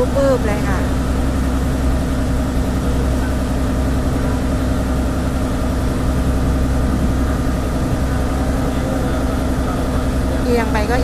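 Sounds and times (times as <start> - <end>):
boat engine humming: 0.0 - 11.0
water rushing along hull: 0.0 - 11.0.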